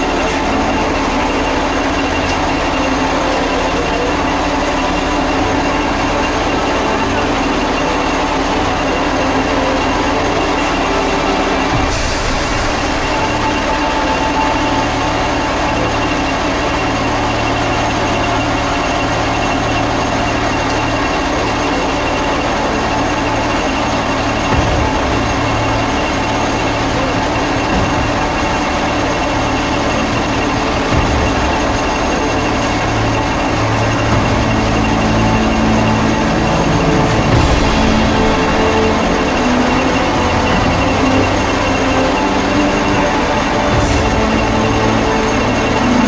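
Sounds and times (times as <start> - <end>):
diesel engine drone: 0.0 - 46.0
low hum: 0.0 - 46.0.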